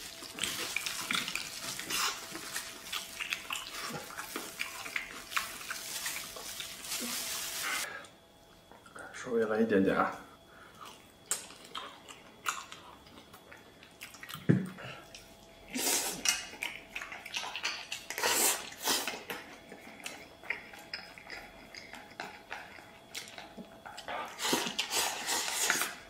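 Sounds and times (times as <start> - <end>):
chewing and slurping: 0.0 - 7.9, 10.7 - 26.0.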